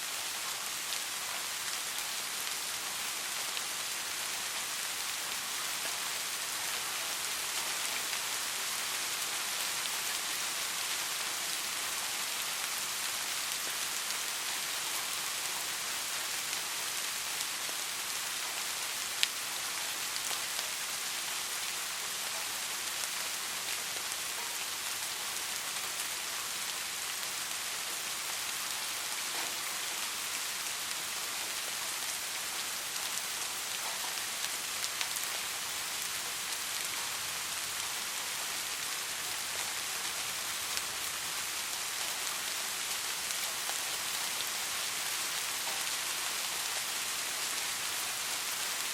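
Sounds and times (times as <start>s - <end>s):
soft rain falling: 0.0s - 48.9s.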